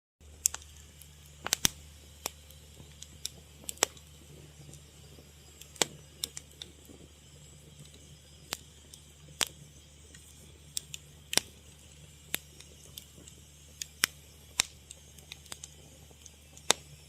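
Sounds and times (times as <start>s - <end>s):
fire crackling and popping: 0.2s - 17.0s
low steady hum: 0.2s - 17.0s.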